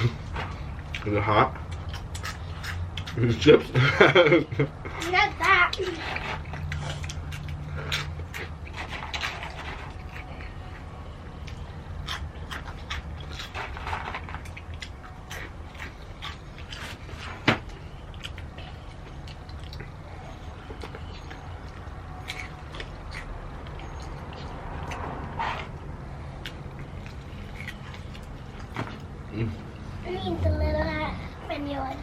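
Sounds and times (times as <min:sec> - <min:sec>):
chewing: 0:00.0 - 0:30.0.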